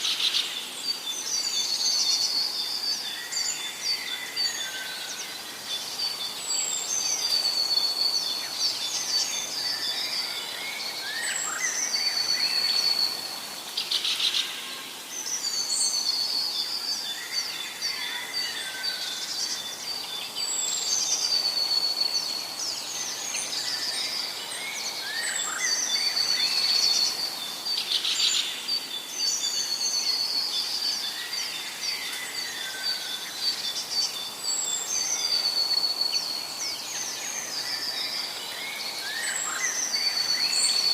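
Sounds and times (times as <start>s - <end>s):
many birds chirping: 0.0s - 40.9s.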